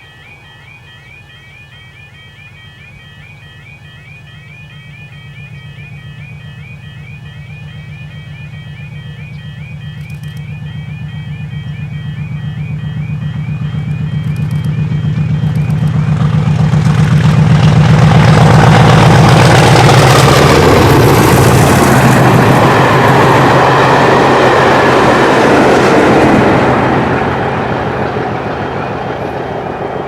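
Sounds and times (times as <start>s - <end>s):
diesel locomotive engine growling: 2.8s - 30.0s.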